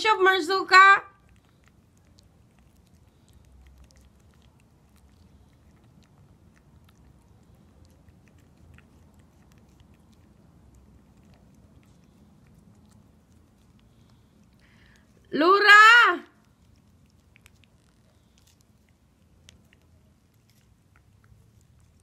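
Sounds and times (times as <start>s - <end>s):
cat licking wet clicks: 1.1s - 15.3s, 16.3s - 22.0s.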